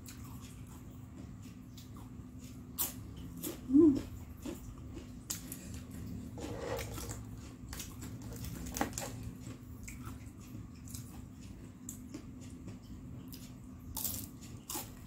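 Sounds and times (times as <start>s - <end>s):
chewing crispy fried snacks: 0.0s - 15.0s.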